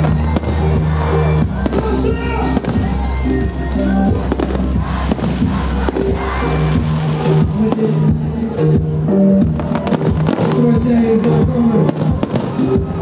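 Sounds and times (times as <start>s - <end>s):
loud music with sustained bass: 0.0s - 13.0s.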